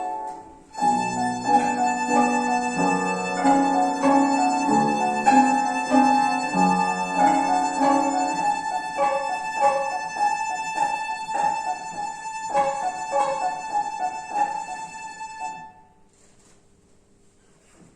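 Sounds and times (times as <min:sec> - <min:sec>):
piano accompaniment: 0:00.0 - 0:15.9
violin ensemble holding high note: 0:00.8 - 0:15.8.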